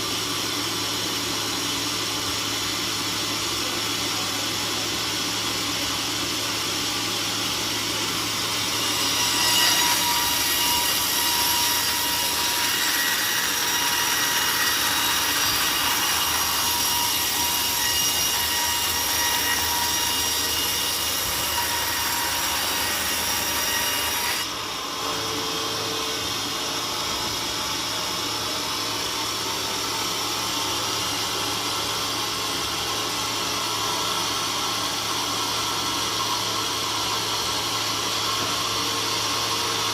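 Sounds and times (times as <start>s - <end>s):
saw cutting through log: 0.0s - 39.9s
sawmill saw running: 0.0s - 39.9s.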